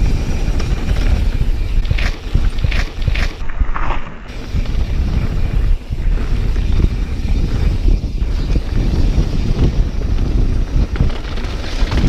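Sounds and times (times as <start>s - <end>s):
mountain bike rumbling and clattering: 0.0s - 12.0s
wind buffeting microphone: 0.0s - 12.0s.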